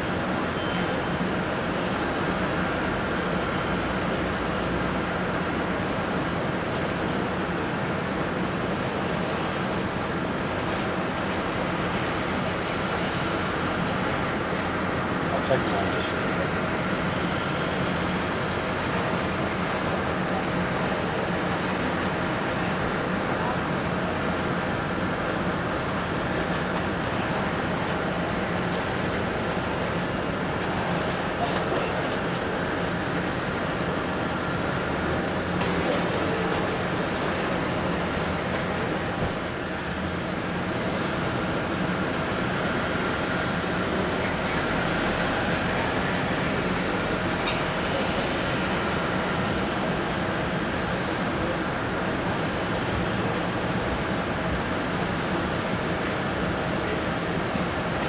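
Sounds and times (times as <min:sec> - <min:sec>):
jet aircraft engine rumble: 0:09.8 - 0:58.0.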